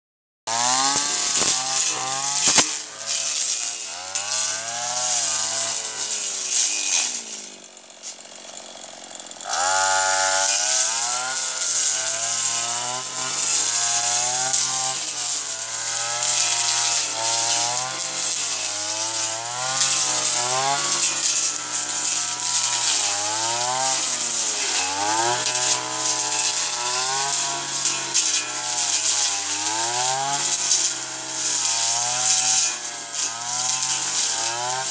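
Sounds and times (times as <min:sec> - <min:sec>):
brushcutter engine revving: 0:00.5 - 0:34.9.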